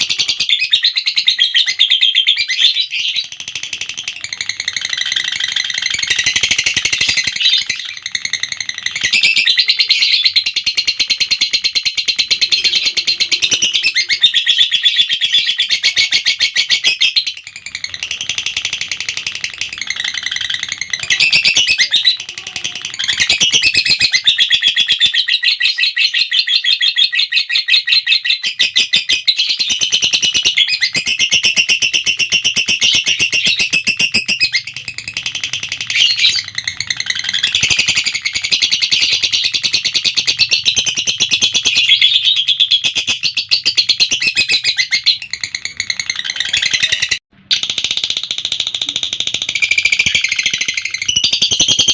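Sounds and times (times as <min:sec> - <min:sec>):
lovebird chattering trill: 0:00.0 - 0:51.9.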